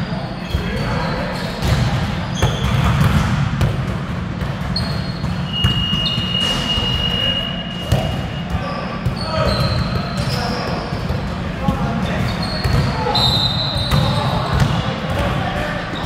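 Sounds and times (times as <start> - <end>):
sneaker squeaks: 0.0 - 3.3, 4.6 - 16.0
basketballs bouncing on court floor: 1.6 - 7.0, 7.8 - 15.7.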